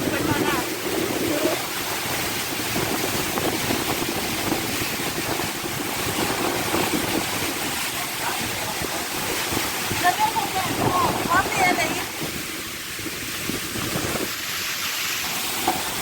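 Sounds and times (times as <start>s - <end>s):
strong storm wind: 0.0s - 16.0s.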